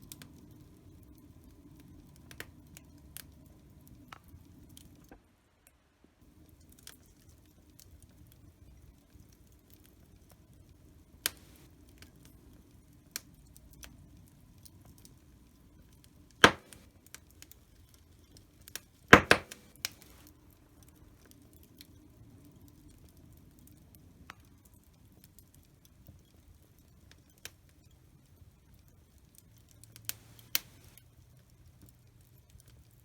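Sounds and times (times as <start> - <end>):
fire crackling and popping: 0.0 - 5.1, 6.3 - 33.0.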